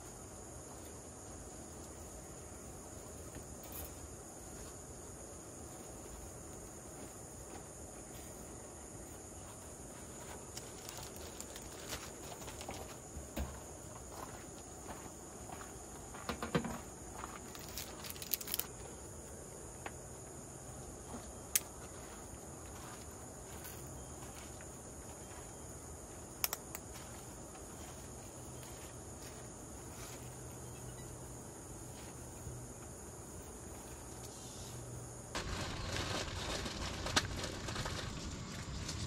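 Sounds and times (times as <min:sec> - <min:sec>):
insects calling: 0:00.0 - 0:39.0.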